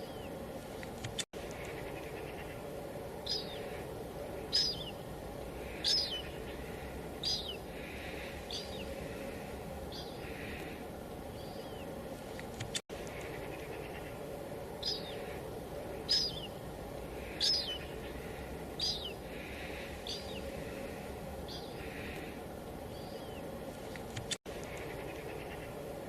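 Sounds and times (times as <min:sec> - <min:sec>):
bird calling: 0:01.0 - 0:26.0.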